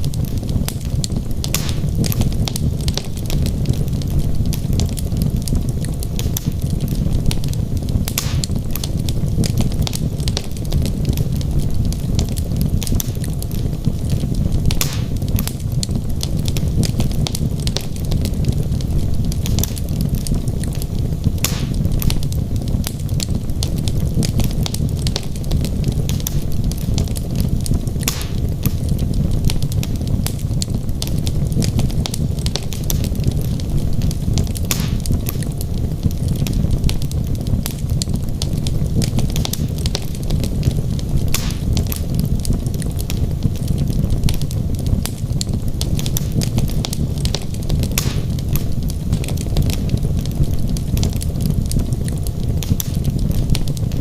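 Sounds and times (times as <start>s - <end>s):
fire crackling and popping: 0.0s - 54.0s
logs burning in fireplace: 0.0s - 54.0s.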